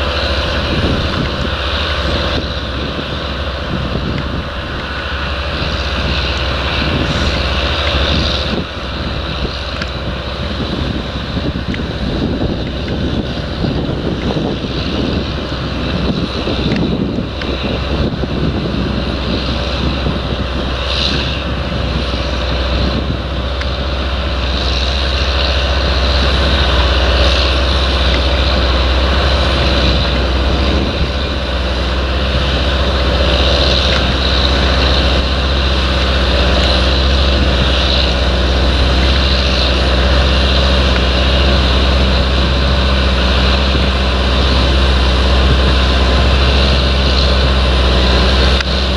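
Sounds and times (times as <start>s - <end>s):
tractor diesel engine: 0.0s - 48.9s
wind buffeting microphone: 0.0s - 48.9s.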